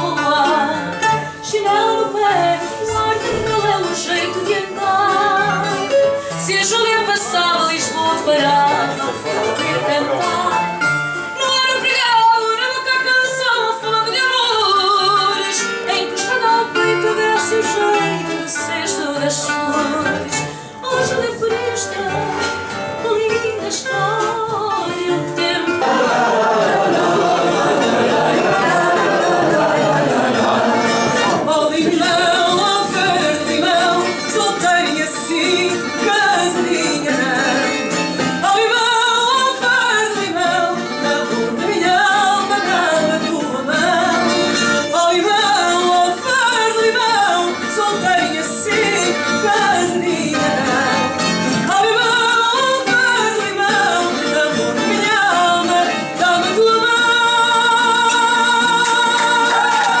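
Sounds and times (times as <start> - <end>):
guitar accompaniment: 0.0 - 60.0
person singing: 0.0 - 60.0.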